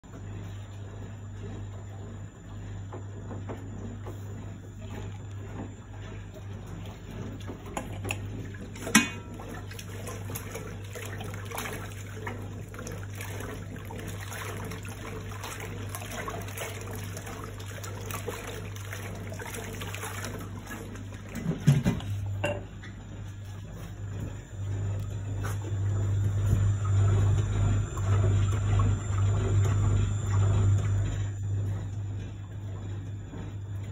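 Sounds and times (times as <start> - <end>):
low motor hum: 0.0 - 33.9
washing machine churning water: 0.0 - 33.9.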